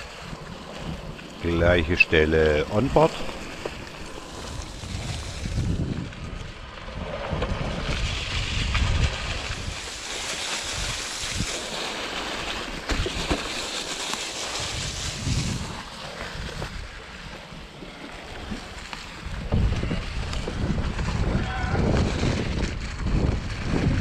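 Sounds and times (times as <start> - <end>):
wind buffeting microphone: 0.0 - 11.7, 14.4 - 24.0
bike rattling over bumps: 0.0 - 24.0
tyre rumble on dirt trail: 0.0 - 24.0.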